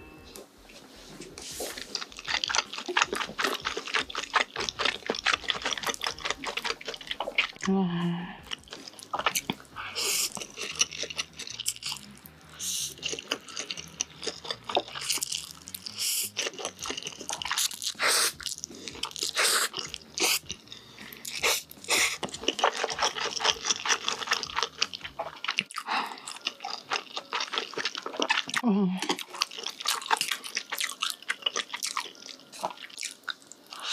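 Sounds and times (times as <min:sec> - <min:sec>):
chewing noodles: 0:01.3 - 0:07.8, 0:08.4 - 0:33.9.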